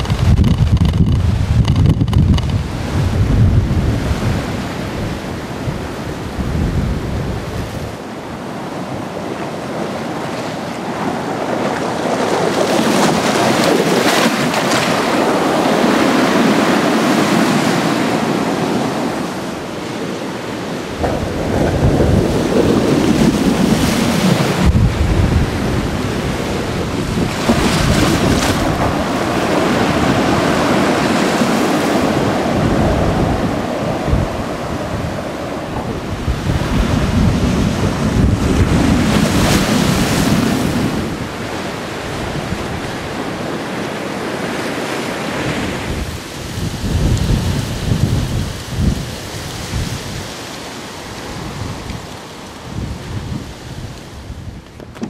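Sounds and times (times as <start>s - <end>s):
waves surging and breaking: 0.0s - 55.0s
wind gusts buffeting microphone: 0.0s - 55.0s.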